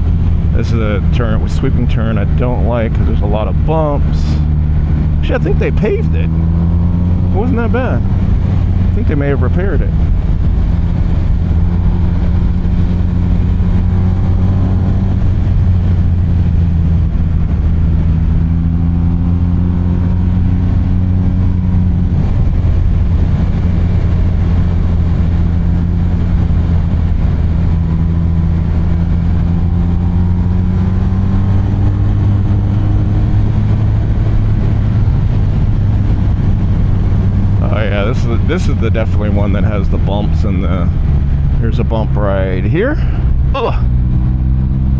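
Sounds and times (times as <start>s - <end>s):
motorcycle engine running: 0.0s - 44.9s
wind and road noise: 0.0s - 44.9s.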